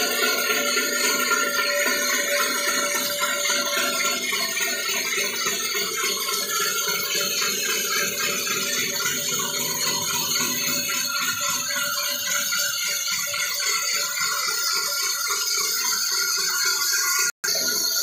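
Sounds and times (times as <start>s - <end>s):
saw cutting wood: 0.0s - 15.8s
band saw whining: 0.0s - 18.0s.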